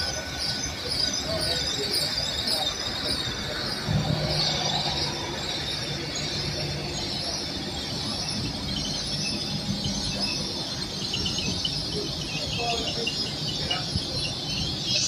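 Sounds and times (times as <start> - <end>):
high squeal of train braking: 0.0 - 15.0
low train hum: 0.0 - 15.0.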